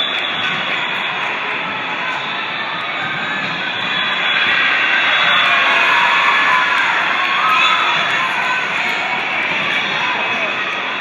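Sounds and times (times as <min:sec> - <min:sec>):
noisy din of large hall: 0:00.0 - 0:11.0.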